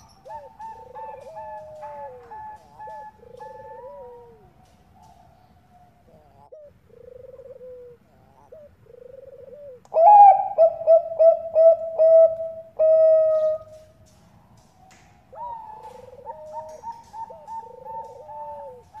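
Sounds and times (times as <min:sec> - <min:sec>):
dove cooing: 0:00.0 - 0:14.2, 0:15.2 - 0:19.0.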